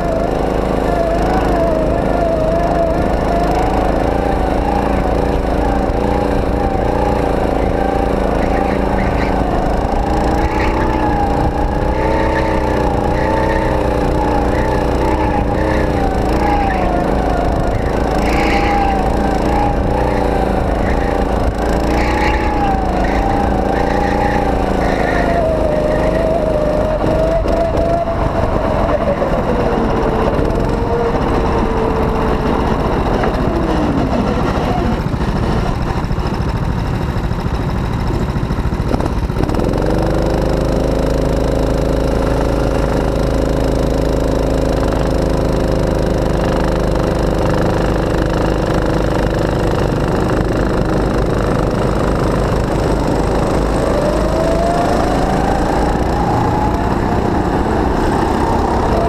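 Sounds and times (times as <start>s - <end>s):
go-kart engine: 0.0s - 59.0s.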